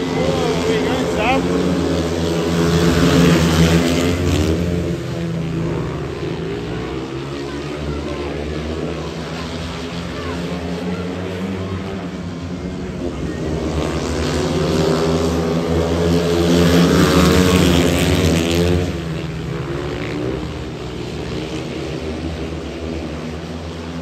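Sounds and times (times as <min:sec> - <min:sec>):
motorbikes racing at full throttle: 0:00.0 - 0:24.0.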